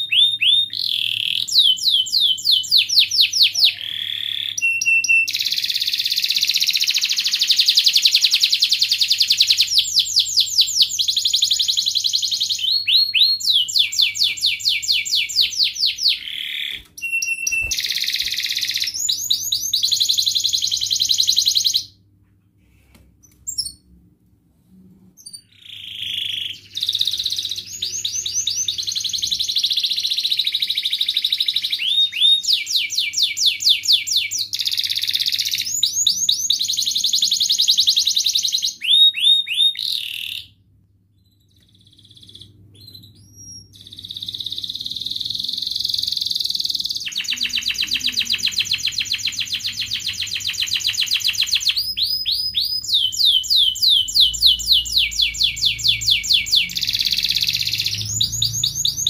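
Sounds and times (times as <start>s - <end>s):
canary trilling: 0.0s - 21.9s, 25.2s - 40.6s, 41.2s - 59.0s.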